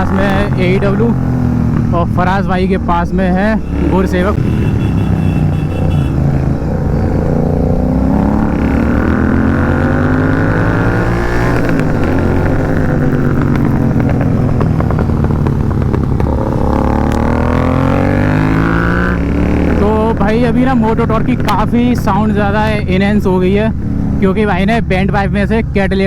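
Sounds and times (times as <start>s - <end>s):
motorcycles accelerating: 0.0s - 26.0s.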